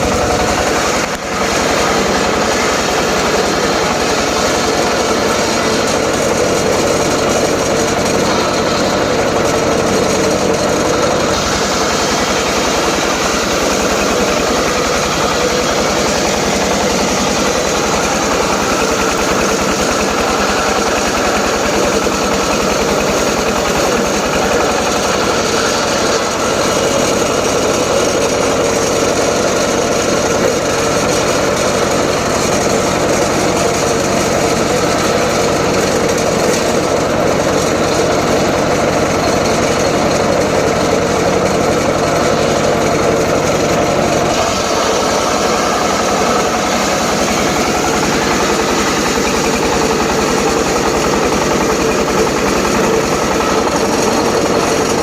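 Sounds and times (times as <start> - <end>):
circular saw ripping wood: 0.0 - 55.0.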